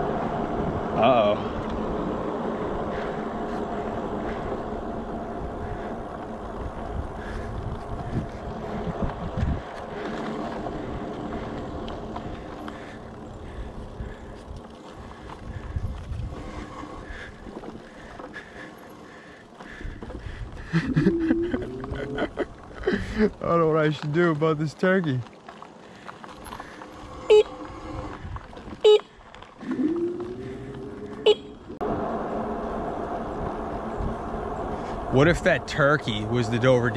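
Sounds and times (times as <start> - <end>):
wind rumble on microphone: 0.0 - 18.5, 19.7 - 23.4, 26.6 - 28.9, 29.6 - 36.9.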